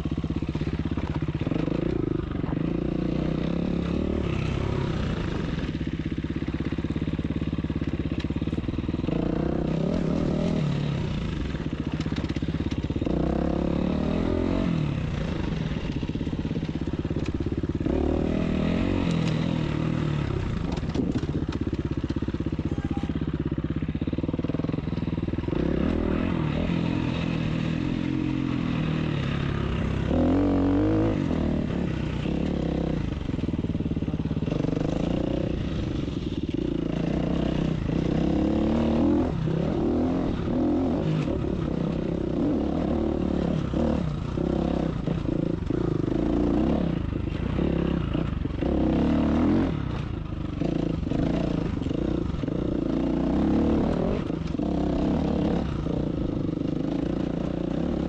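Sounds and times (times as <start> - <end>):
dirt bike engine revving: 0.0 - 8.0, 8.6 - 58.0.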